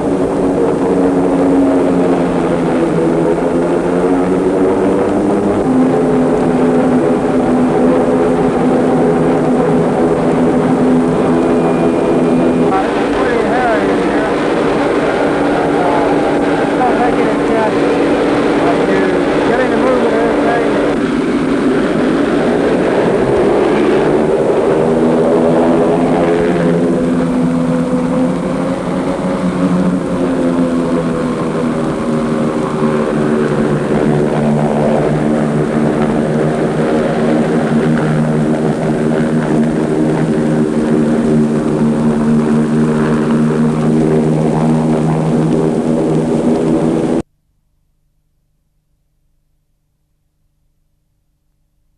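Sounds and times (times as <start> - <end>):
hovercraft engine droning: 0.0 - 47.2.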